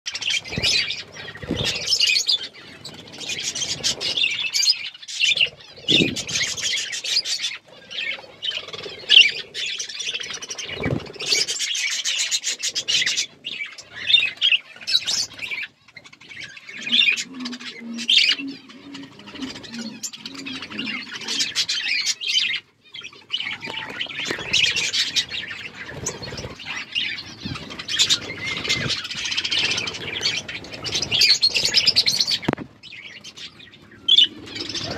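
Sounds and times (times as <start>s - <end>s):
budgerigars chirping and warbling: 0.1s - 34.9s.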